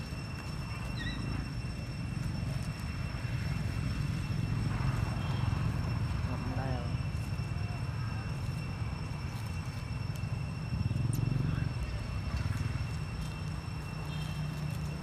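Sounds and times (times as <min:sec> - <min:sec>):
high-pitched steady tones: 0:00.0 - 0:15.0
steady low rumble: 0:00.0 - 0:15.0.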